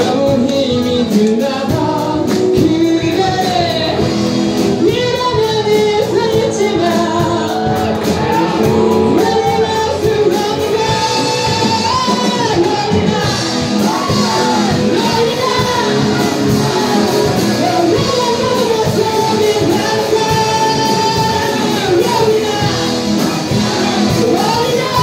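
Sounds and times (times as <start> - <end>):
bass guitar: 0.0 - 25.0
drums and cymbals: 0.0 - 25.0
electric guitars: 0.0 - 25.0
keyboard: 0.0 - 25.0
lead vocal singing: 0.0 - 25.0.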